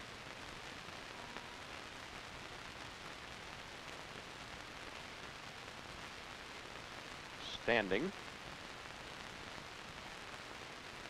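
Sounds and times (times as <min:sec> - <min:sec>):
old film soundtrack hiss: 0:00.0 - 0:11.0.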